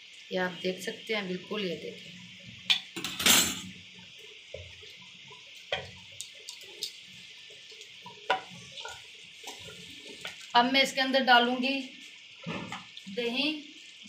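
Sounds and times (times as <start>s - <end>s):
curry boiling hiss: 0.0s - 14.0s.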